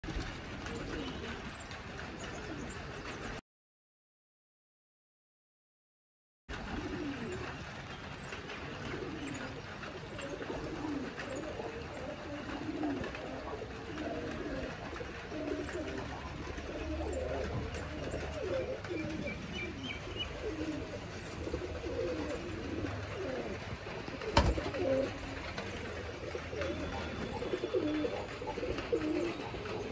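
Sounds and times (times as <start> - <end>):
pigeons cooing: 0.2 - 3.4, 6.5 - 29.9.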